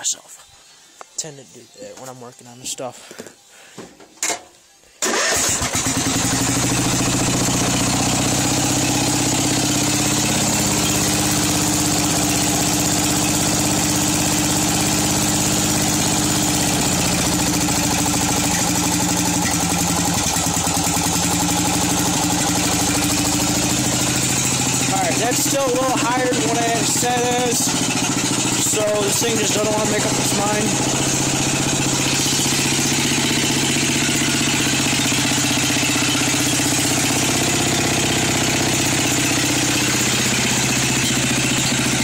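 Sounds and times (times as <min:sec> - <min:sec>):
small engine idling: 0:05.0 - 0:42.0.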